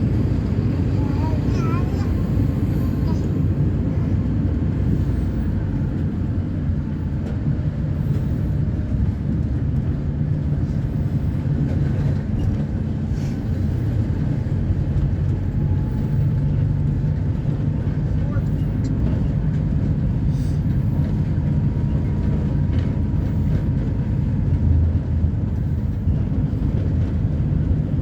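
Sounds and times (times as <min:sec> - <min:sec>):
diesel bus engine running: 0:00.0 - 0:28.0.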